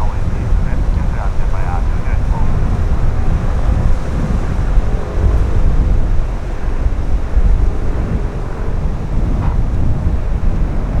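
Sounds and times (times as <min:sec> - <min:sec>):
faint steady hum: 0:00.0 - 0:11.0
wind buffeting microphone: 0:00.0 - 0:11.0.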